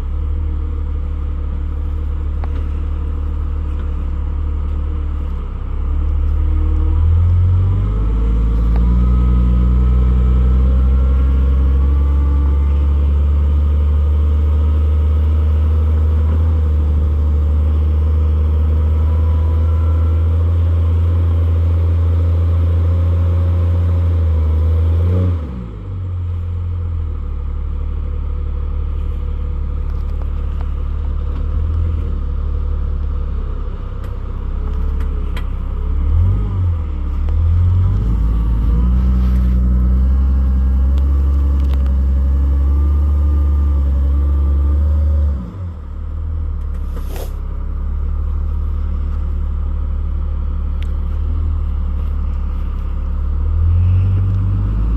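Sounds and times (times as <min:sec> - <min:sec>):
engine running under load: 0:00.0 - 0:54.9.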